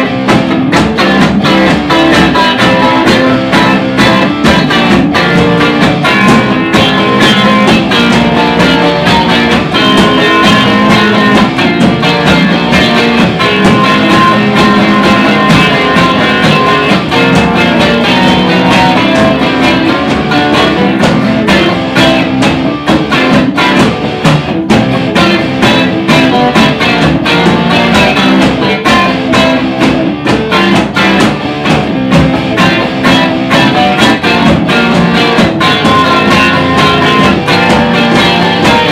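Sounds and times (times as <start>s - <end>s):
drum kit: 0.0s - 38.9s
guitars playing: 0.0s - 38.9s.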